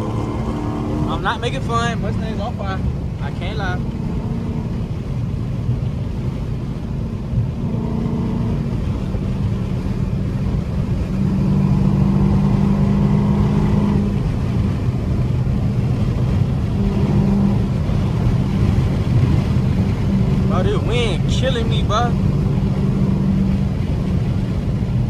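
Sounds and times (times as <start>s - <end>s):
car engine droning at speed: 0.0s - 25.0s.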